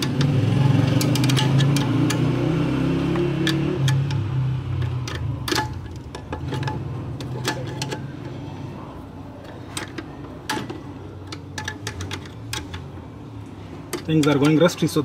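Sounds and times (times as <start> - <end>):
metallic clicks and scrapes of tools: 0.0 - 2.4, 3.1 - 8.4, 9.4 - 12.9, 13.5 - 14.8.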